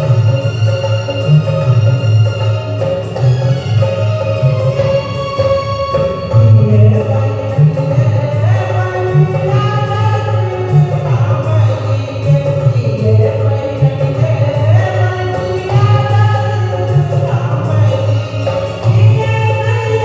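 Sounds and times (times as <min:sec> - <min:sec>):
low rhythmic accompaniment: 0:00.0 - 0:20.0.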